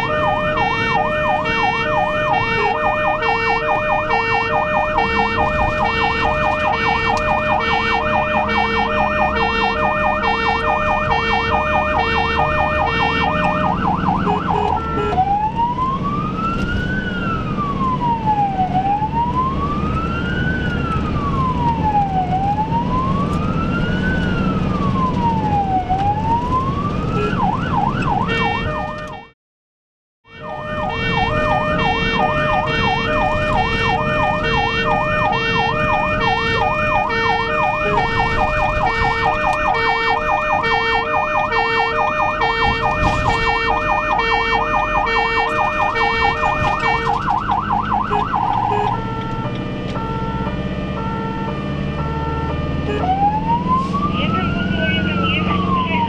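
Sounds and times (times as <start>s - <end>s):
ambulance siren: 0.0s - 29.4s, 30.2s - 56.0s
engine and road noise: 0.0s - 29.4s, 30.2s - 56.0s.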